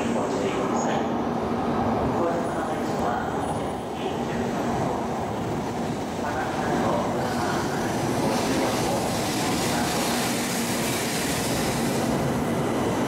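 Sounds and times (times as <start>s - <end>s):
train rolling past: 0.0s - 13.0s.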